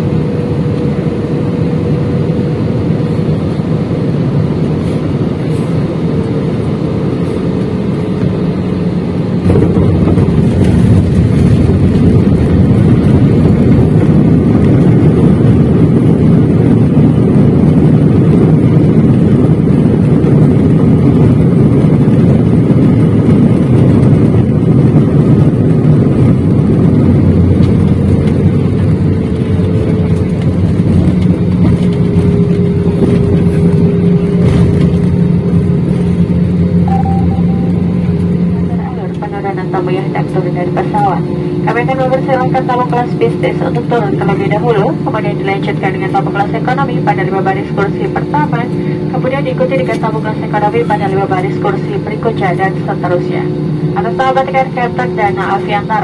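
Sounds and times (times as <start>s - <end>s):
jet engine and airflow noise: 0.0s - 56.0s
jet touchdown roar and rumble: 0.0s - 56.0s.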